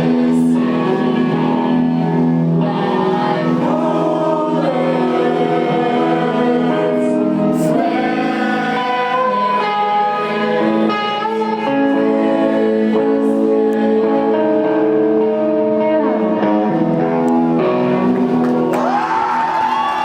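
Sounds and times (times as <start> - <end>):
person singing: 0.0 - 18.5
live band guitars: 0.0 - 20.0.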